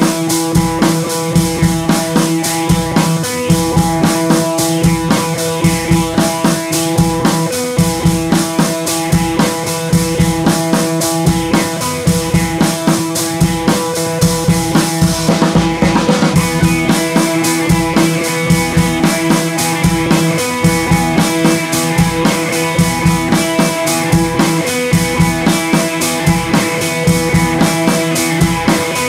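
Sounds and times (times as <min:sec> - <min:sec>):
steady drum beat: 0:00.0 - 0:29.0.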